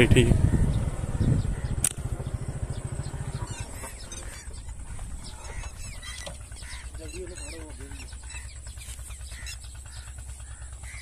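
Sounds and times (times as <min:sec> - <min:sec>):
birds chirping: 0:00.0 - 0:11.0
low steady rumble: 0:00.0 - 0:11.0.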